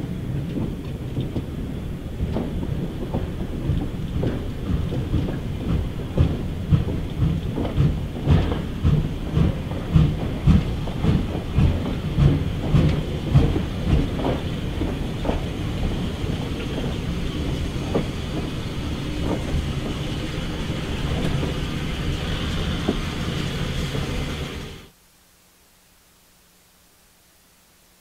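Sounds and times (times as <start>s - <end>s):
steam locomotive chuffing: 0.0s - 24.9s.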